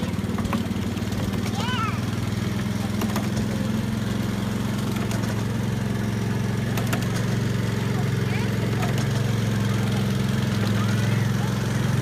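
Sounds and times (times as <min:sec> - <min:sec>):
small train engine humming: 0:00.0 - 0:12.0.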